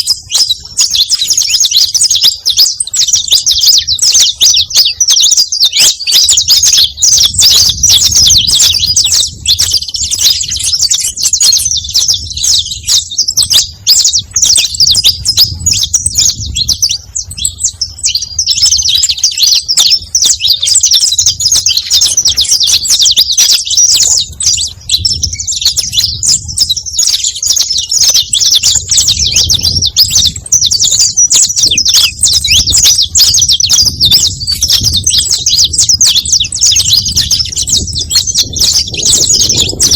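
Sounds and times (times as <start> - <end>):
finch singing rapid chirps: 0.0 - 39.9.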